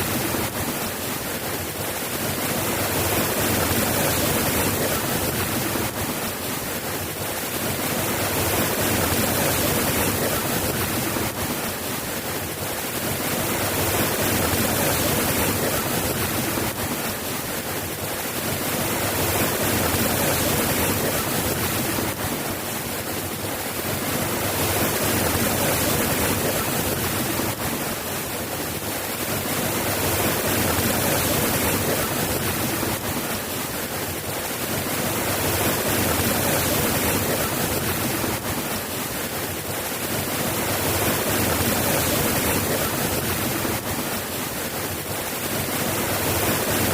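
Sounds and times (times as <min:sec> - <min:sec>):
heavy rain hiss: 0:00.0 - 0:46.9.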